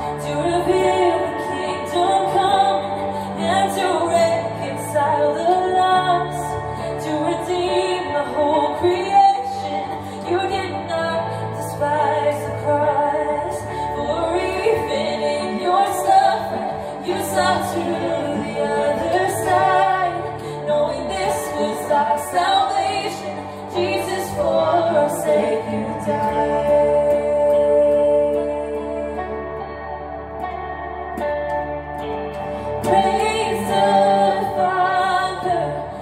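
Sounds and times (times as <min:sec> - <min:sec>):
woman singing worship song: 0:00.0 - 0:30.2, 0:32.5 - 0:36.0.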